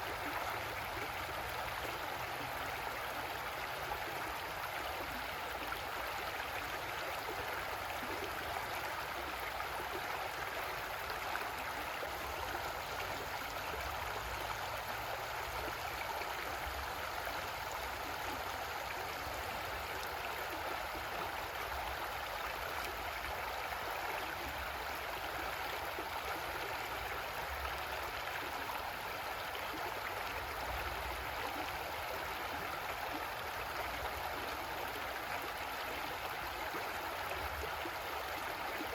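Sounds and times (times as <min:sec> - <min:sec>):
creek water gurgling: 0:00.0 - 0:38.9.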